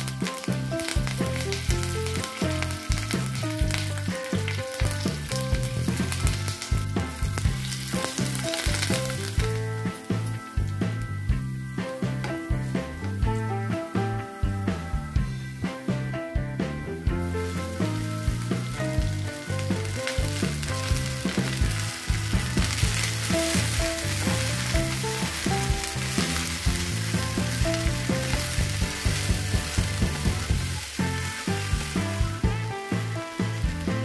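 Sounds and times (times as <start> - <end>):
vegetables sizzling in hot oil: 0.0 - 12.3, 17.2 - 34.0
background music with steady beat: 0.0 - 34.0.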